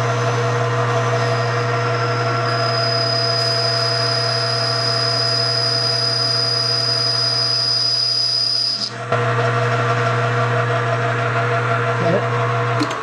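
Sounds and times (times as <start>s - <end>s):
lathe high whine: 0.0s - 13.0s
metal lathe low hum: 0.0s - 13.0s.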